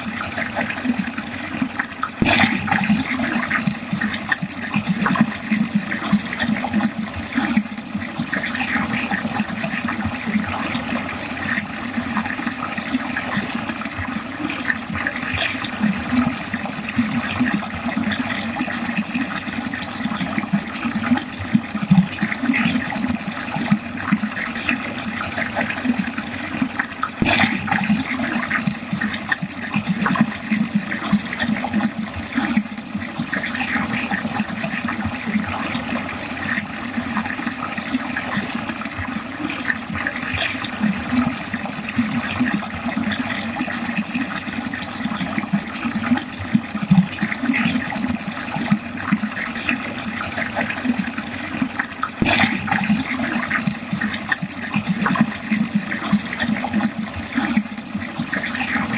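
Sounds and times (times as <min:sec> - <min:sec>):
water gurgling down a drain: 0:00.0 - 0:58.9.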